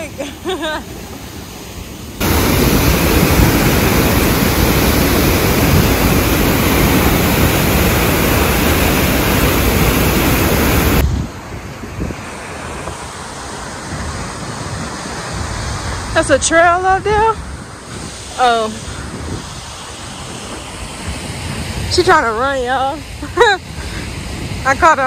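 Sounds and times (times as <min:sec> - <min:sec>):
water rushing from dam outlet: 0:00.0 - 0:25.0.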